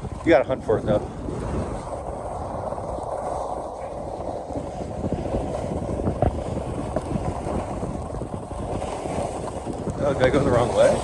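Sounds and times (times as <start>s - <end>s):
skis scraping over snow: 0.0s - 11.0s
wind rushing over microphone: 0.0s - 11.0s.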